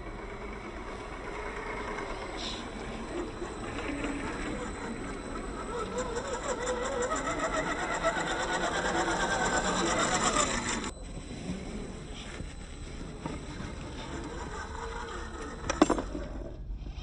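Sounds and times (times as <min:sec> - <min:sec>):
electric motor whining: 0:00.0 - 0:16.6.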